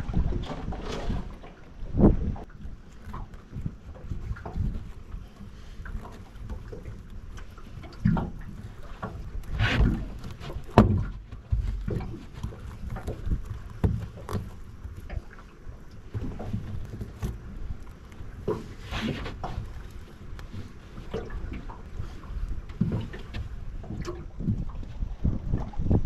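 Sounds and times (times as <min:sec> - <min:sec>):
rustling and scraping: 0:02.9 - 0:25.4.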